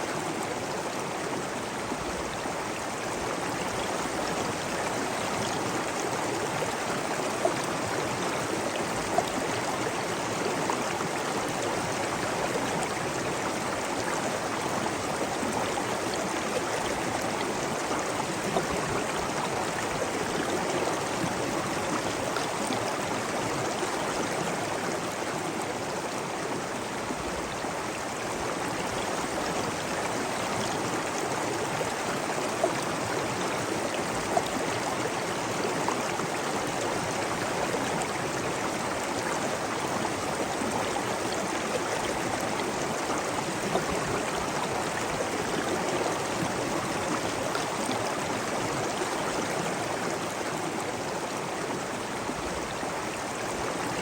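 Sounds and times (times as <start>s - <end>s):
rush of flowing water: 0.0s - 54.0s.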